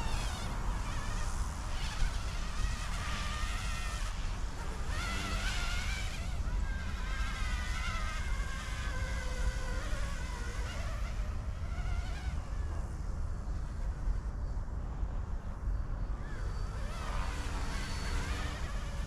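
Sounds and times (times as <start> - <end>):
low wind rumble on microphone: 0.0 - 19.0
rc helicopter rotor whine: 0.0 - 19.0.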